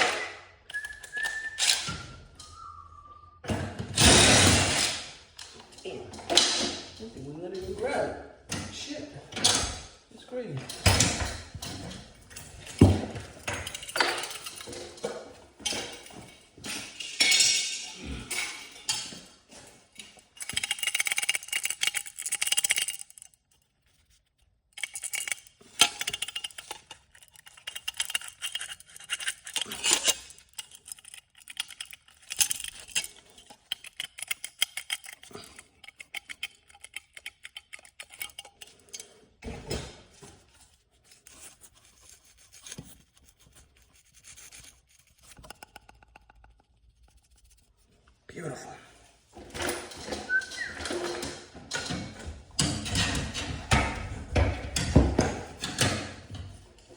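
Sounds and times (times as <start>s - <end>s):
metal tools clinking and scraping: 0.0s - 2.6s, 8.5s - 46.1s, 49.3s - 56.9s.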